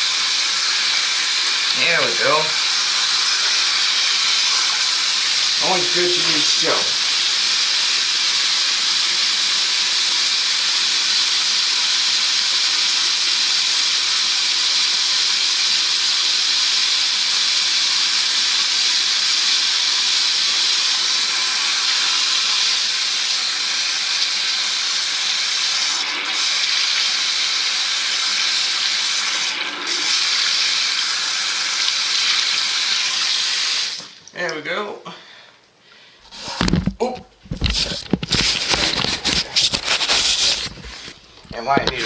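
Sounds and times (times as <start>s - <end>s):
water running from a tap: 0.0s - 34.6s.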